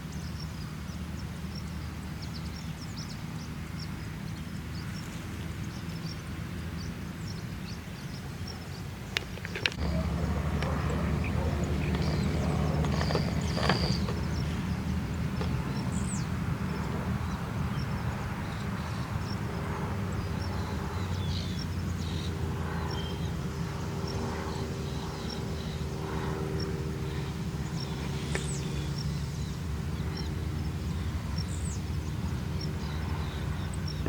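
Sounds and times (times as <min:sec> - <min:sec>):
light aircraft engine droning: 0:00.0 - 0:34.0.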